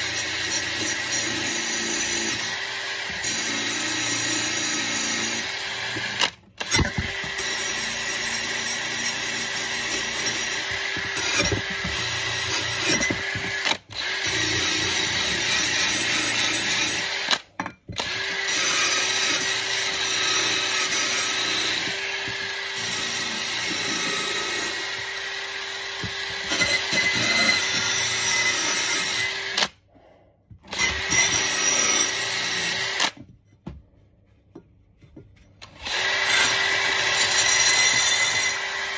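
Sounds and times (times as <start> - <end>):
power drill running: 0.0 - 29.8, 30.7 - 33.2, 35.6 - 38.9.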